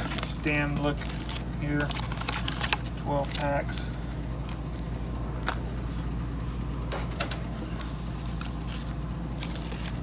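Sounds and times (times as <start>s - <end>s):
card packs clicking and rustling: 0.0s - 5.7s, 7.2s - 10.0s
steady low hum: 0.0s - 10.0s.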